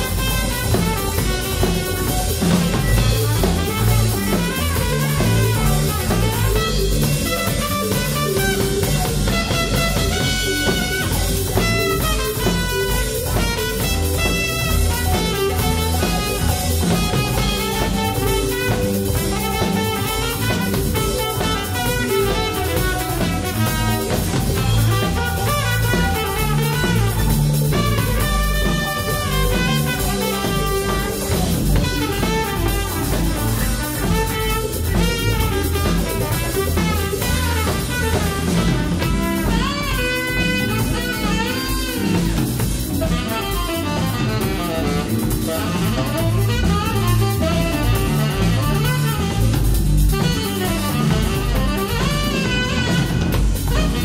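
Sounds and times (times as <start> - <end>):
drum kit: 0.0 - 54.0
electric bass: 0.0 - 54.0
electric guitar: 0.0 - 54.0
trumpet: 0.0 - 54.0.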